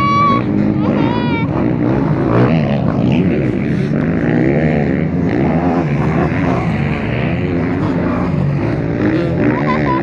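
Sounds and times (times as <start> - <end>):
motocross bikes revving: 0.0 - 10.0.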